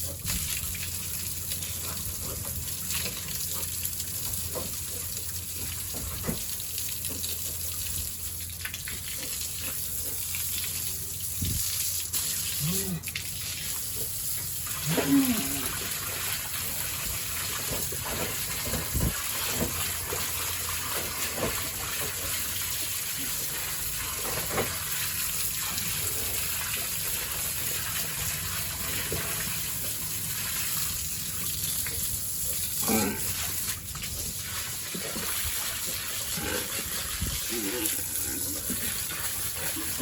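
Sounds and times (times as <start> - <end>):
running water splashing: 0.0 - 40.0.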